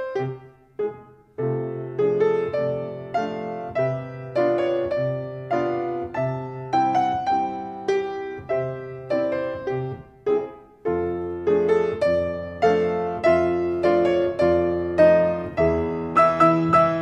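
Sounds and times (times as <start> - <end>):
piano chords on a steady beat: 0.0 - 17.0.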